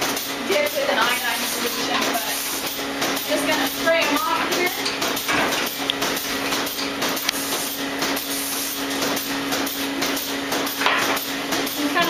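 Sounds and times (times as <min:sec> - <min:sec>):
vacuum system humming: 0:00.0 - 0:12.0.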